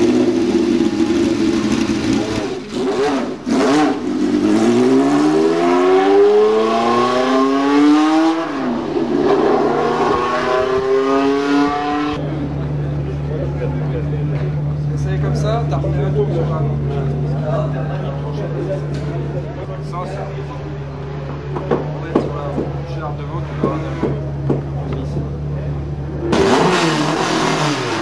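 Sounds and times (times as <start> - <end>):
race car engine idling: 0.0 - 4.9, 8.6 - 28.0
race car engine revving: 0.0 - 28.0.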